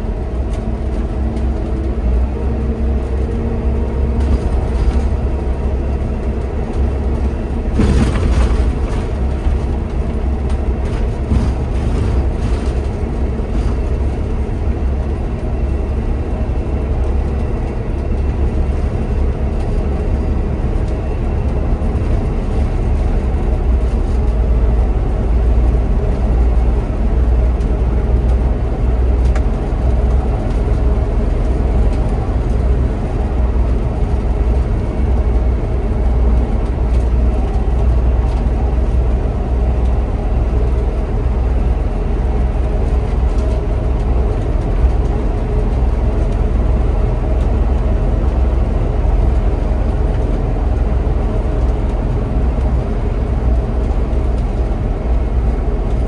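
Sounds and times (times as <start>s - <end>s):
bus cab rumble and road noise: 0.0s - 56.0s.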